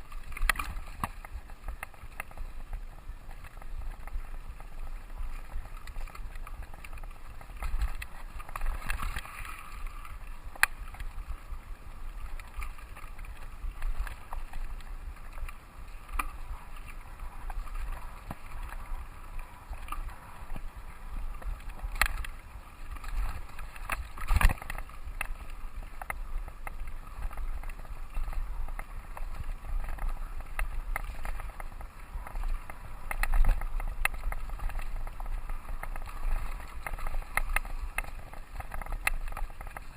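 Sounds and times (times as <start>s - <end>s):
bike tyres rumbling on dirt: 0.0s - 39.9s.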